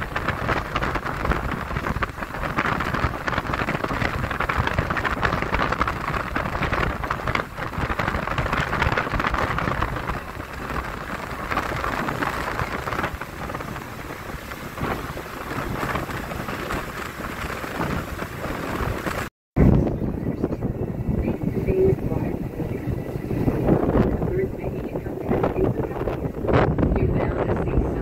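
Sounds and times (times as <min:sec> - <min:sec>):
boat wake splashing: 0:00.0 - 0:28.0
wind buffeting microphone: 0:00.0 - 0:28.0.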